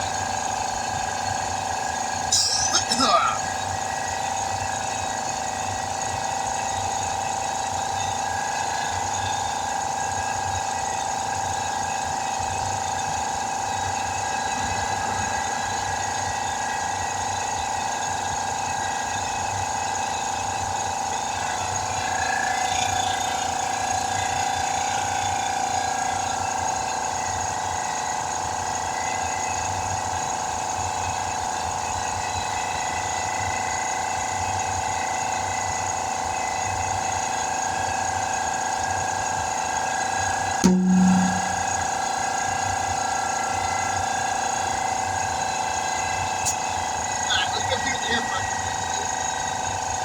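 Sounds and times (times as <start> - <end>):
air compressor running: 0.0 - 50.0.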